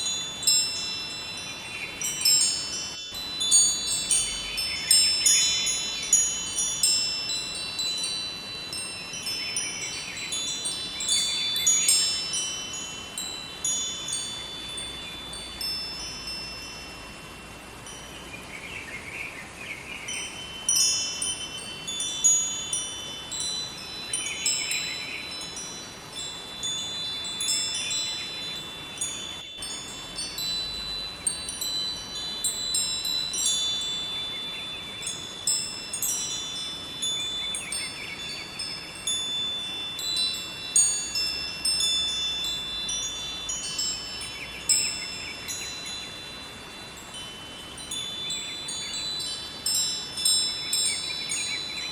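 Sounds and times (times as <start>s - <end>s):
wind chimes ringing: 0.0s - 51.9s.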